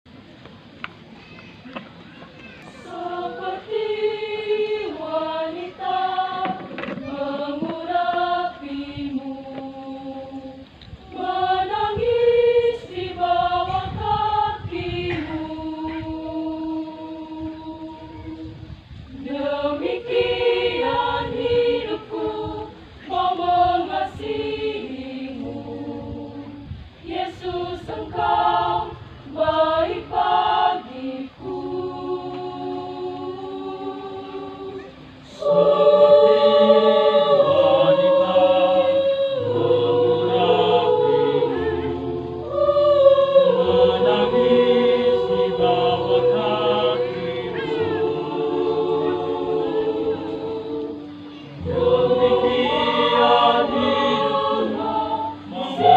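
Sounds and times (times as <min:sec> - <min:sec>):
church choir singing a hymn: 0:02.7 - 0:55.9.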